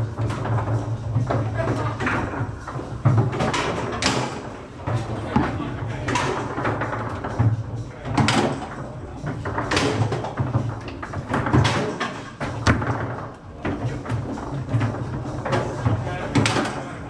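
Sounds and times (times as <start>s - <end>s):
foosball ball knocks: 0.1s - 7.5s, 8.1s - 17.0s.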